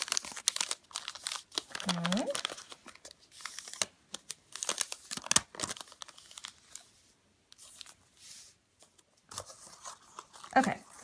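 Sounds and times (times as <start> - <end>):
paper crinkling as folded: 0.0 - 11.0.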